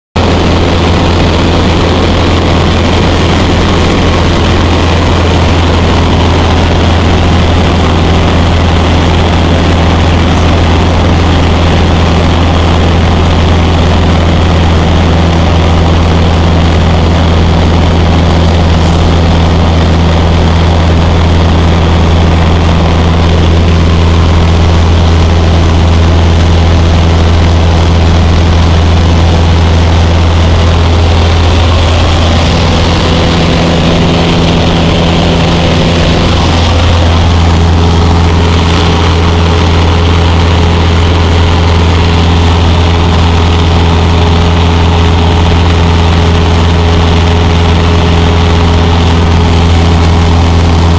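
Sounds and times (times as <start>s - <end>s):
airplane engine and propeller drone: 0.2s - 50.9s
constant rushing noise: 0.2s - 50.9s.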